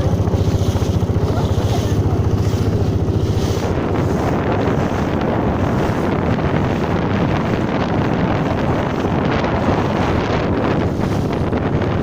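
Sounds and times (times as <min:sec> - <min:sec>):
low fast engine throb: 0:00.0 - 0:12.0
wind buffeting microphone: 0:00.0 - 0:12.0.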